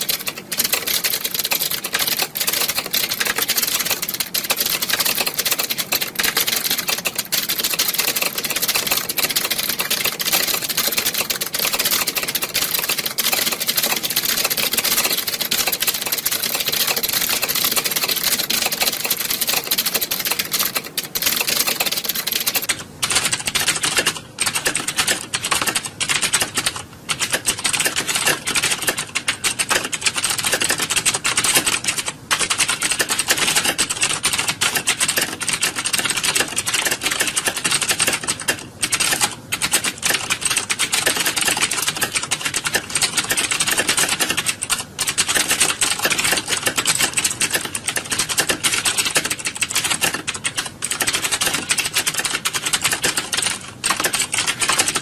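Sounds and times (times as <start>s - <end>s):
keyboards typing clatter: 0.0s - 55.0s.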